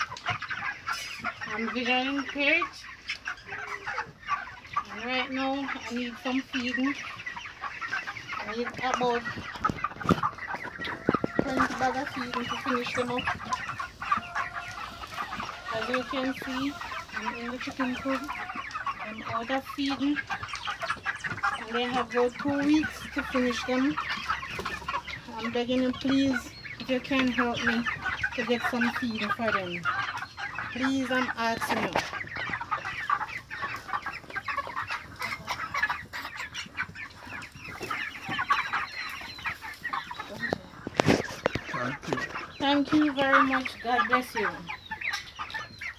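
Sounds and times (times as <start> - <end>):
chicks clucking and peeping: 0.0 - 45.9.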